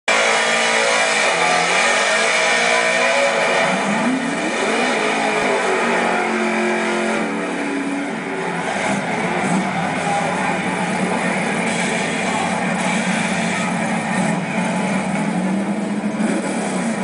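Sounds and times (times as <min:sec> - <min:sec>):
race car engine running loudly: 0:00.1 - 0:17.0.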